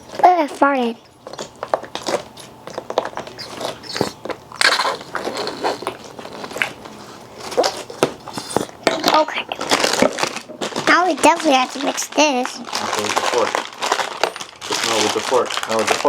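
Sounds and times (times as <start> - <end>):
crackling and crunching handling noises: 0.0 - 16.0.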